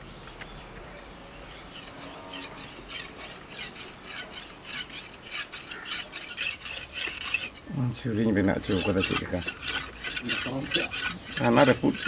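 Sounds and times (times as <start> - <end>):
blade scraping on sharpening stone: 1.5 - 7.6, 8.4 - 12.0.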